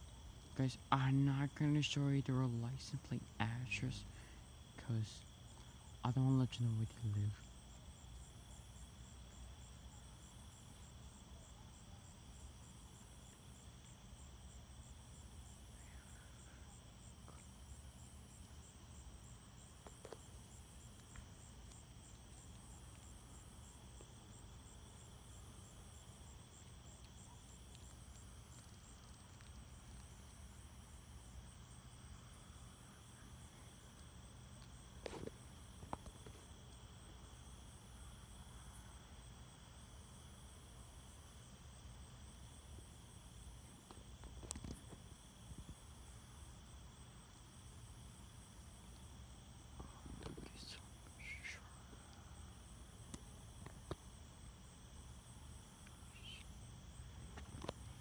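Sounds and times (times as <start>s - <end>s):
crickets trilling: 0.0s - 58.0s
pulsing high insect call: 0.0s - 58.0s.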